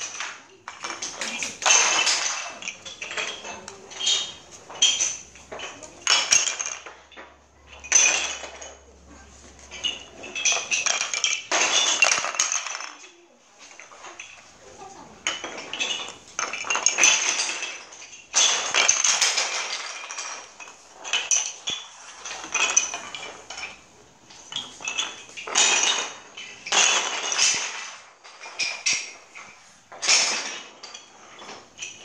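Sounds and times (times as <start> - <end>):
wooden sticks clattering on wooden floor: 0.0 - 32.0.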